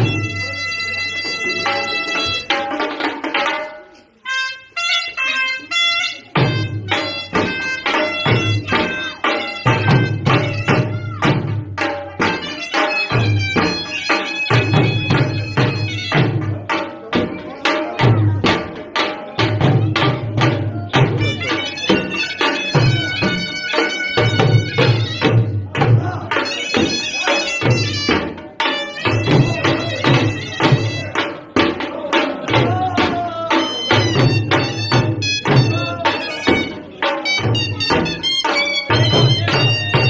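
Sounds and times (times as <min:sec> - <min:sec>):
shawm playing piercing melody: 0:00.0 - 0:03.1, 0:03.9 - 0:18.1, 0:19.2 - 0:40.0
drums beaten with sticks: 0:00.0 - 0:04.0, 0:06.2 - 0:40.0.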